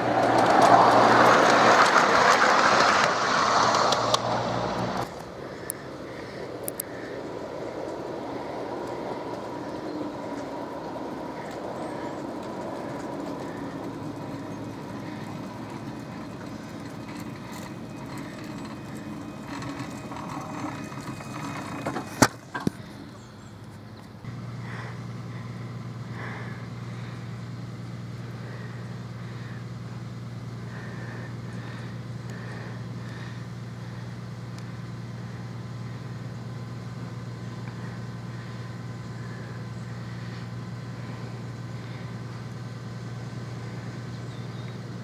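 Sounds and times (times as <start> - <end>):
miniature locomotive hum and whine: 0.0 - 45.0
steady low drone: 0.0 - 45.0.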